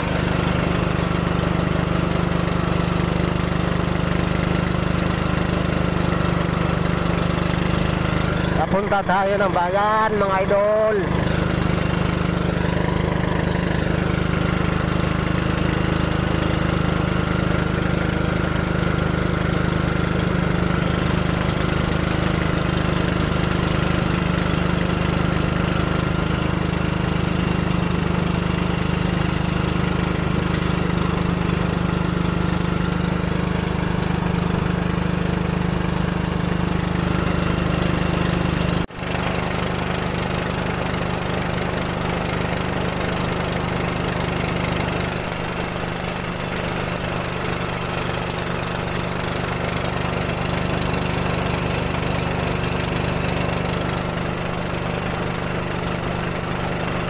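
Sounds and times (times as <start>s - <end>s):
motor boat engine droning: 0.0s - 57.0s.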